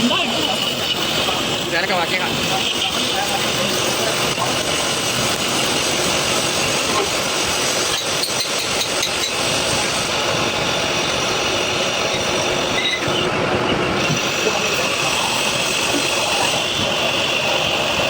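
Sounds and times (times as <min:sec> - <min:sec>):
workshop machinery running: 0:00.0 - 0:18.0.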